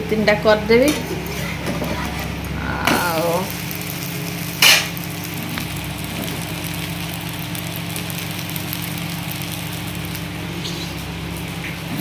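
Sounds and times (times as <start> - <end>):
batter sizzling in a frying pan: 0.0 - 12.0
low machine hum: 0.0 - 12.0.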